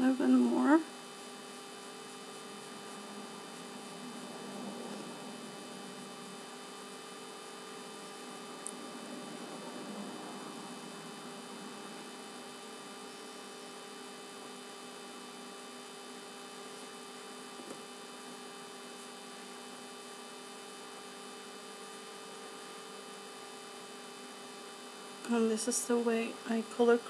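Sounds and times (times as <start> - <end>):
electrical hum: 0.0 - 27.0
low hiss: 0.0 - 27.0.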